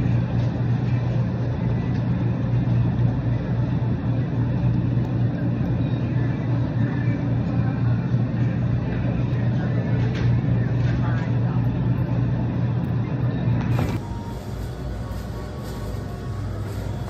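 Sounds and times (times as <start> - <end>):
refrigerated display cases humming: 0.0 - 17.0.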